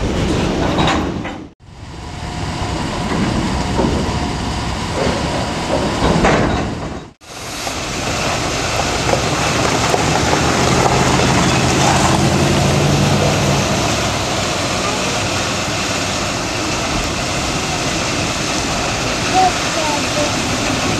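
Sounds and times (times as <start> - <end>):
railroad switching: 0.0 - 20.9
locomotive engine humming: 1.6 - 20.9.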